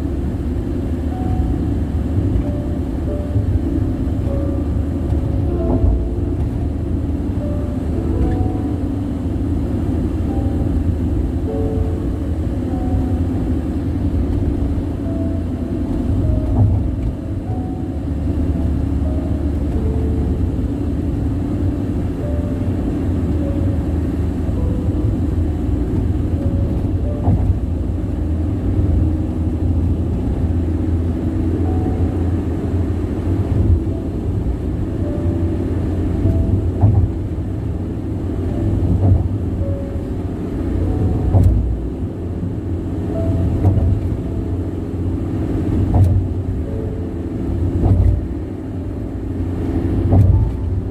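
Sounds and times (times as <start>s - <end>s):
tire and road noise: 0.0s - 50.9s.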